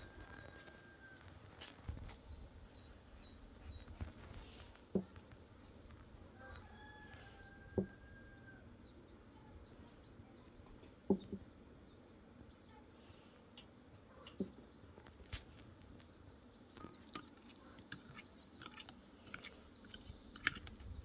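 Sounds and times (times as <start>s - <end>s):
faint outdoor background: 0.0s - 21.0s
small birds chirping: 0.0s - 21.0s.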